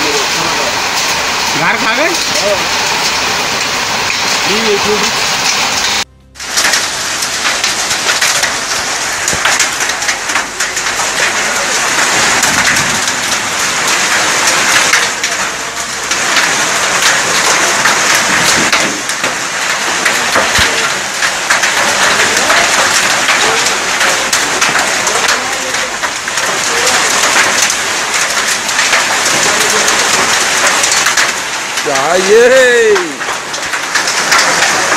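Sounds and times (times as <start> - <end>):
heavy rain and hail pelting: 0.0 - 34.9.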